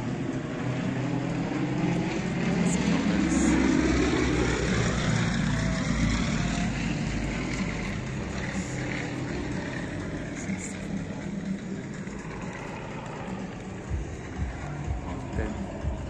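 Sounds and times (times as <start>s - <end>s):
aircraft engine drone: 0.0s - 16.0s
low rumble: 0.0s - 16.0s.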